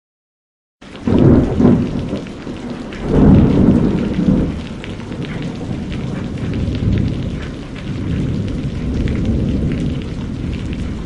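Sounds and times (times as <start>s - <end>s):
steady rain: 0.8s - 11.0s
thunder rumbling: 1.0s - 11.0s.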